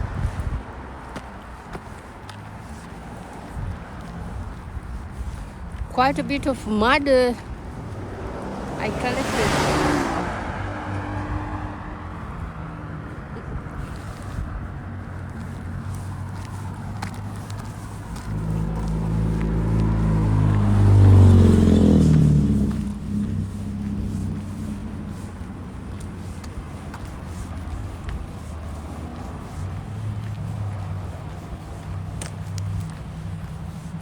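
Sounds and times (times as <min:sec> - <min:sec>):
car passing by: 0:00.0 - 0:34.0
low traffic hum: 0:00.0 - 0:34.0.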